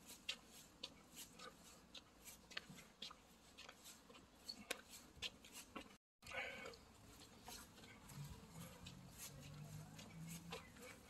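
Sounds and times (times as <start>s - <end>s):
footsteps on dirt path: 0.0s - 11.0s.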